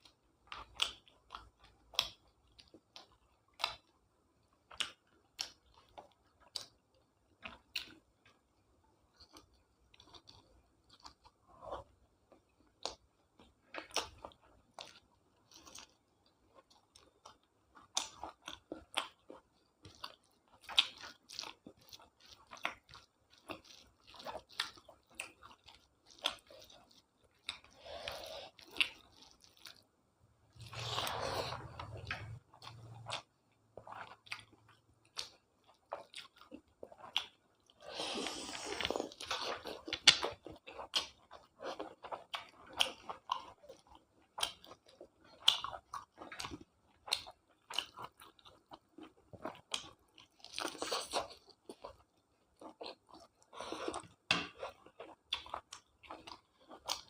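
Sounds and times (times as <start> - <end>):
person chewing food crunching: 0.0 - 57.0.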